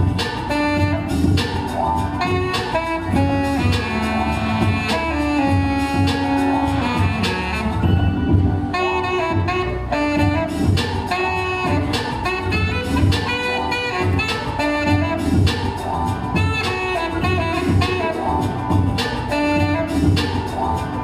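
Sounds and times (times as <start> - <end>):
pulsing bass notes: 0.0 - 21.0
saxophone jazz melody: 0.0 - 21.0.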